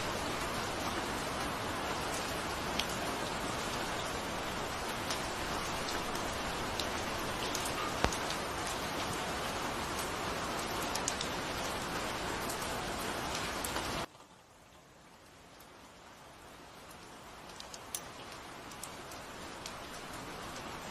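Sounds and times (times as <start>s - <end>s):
rain drop ticks: 0.0s - 14.8s, 16.8s - 20.9s
steady rain hiss: 0.0s - 20.9s.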